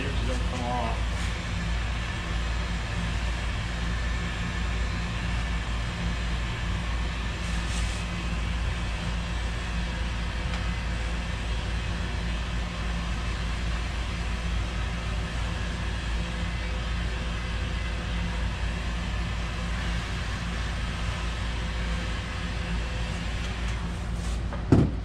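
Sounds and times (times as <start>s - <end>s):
heat gun running: 0.0s - 24.3s.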